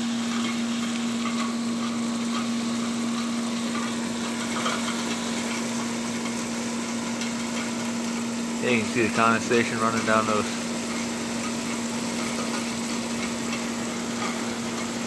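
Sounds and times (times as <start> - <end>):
air conditioner hum: 0.0 - 15.0
fan whooshing: 0.0 - 15.0.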